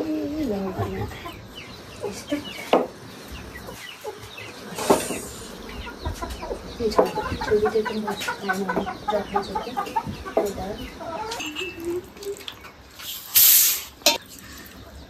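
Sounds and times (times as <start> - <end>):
chickens clucking: 0.0 - 13.1.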